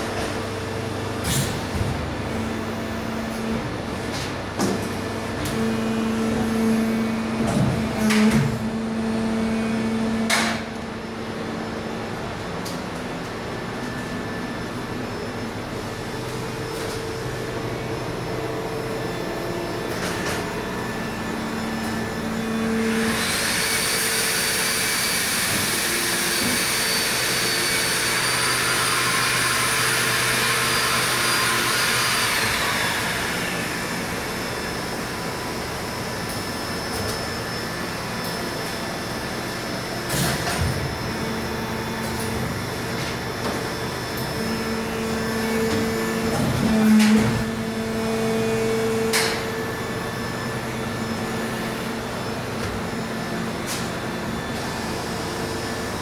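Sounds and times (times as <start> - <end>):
machine mechanical hum: 0.0 - 56.0.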